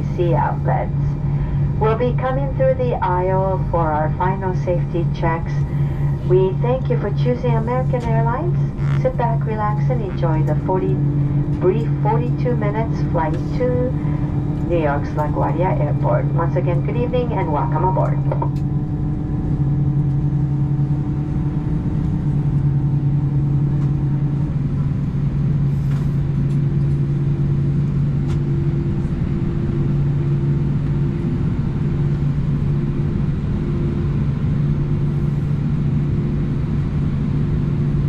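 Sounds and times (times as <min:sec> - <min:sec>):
aircraft cabin drone: 0:00.0 - 0:38.0.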